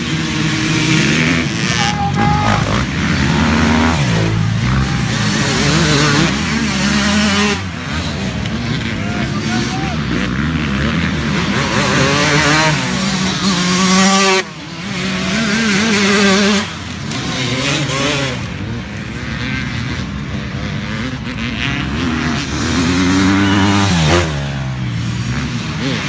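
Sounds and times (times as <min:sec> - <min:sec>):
dirt bike racing past: 0:00.0 - 0:26.0.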